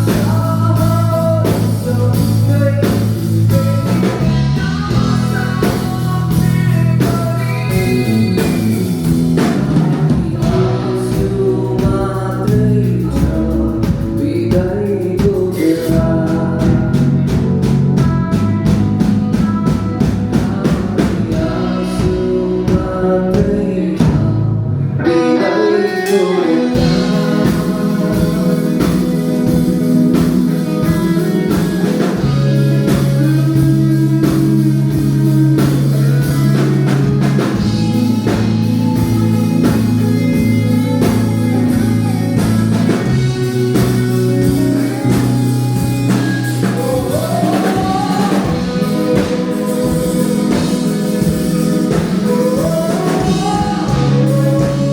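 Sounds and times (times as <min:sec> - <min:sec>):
live band playing: 0:00.0 - 0:54.9
person singing: 0:00.0 - 0:54.9.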